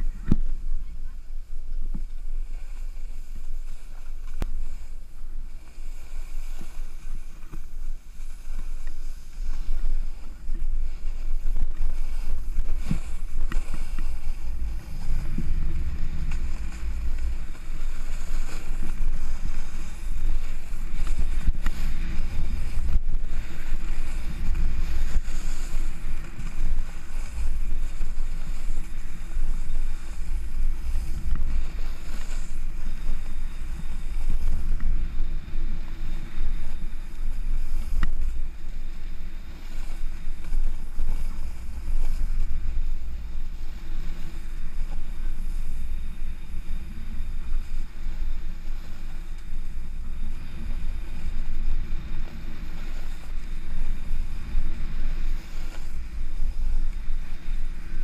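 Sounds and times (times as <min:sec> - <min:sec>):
snowboard scraping over snow: 0:00.0 - 0:58.0
wind rumbling on microphone: 0:00.0 - 0:58.0.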